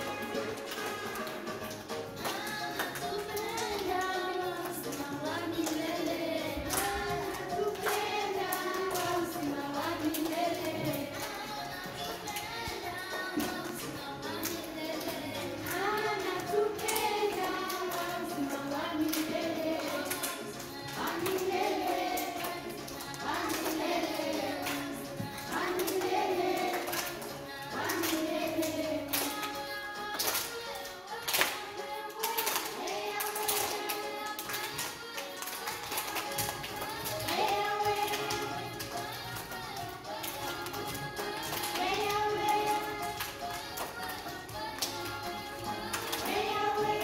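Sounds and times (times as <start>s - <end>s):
children clapping: 0.0s - 47.0s
children singing: 0.0s - 47.0s.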